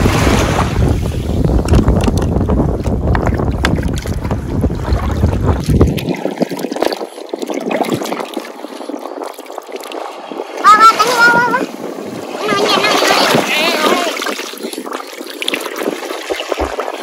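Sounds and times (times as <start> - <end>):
hands splashing seawater: 0.0 - 11.6, 12.2 - 17.0
small waves washing onto sand: 0.0 - 17.0
wind buffeting microphone: 0.0 - 17.0.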